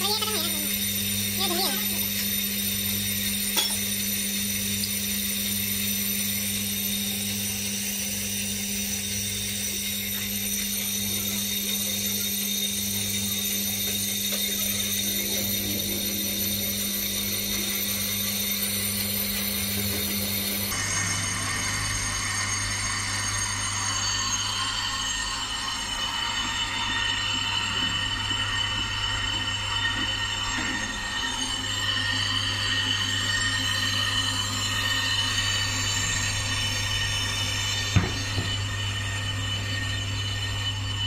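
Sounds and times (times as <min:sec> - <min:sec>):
brake lathe mechanical hum: 0:00.0 - 0:41.0.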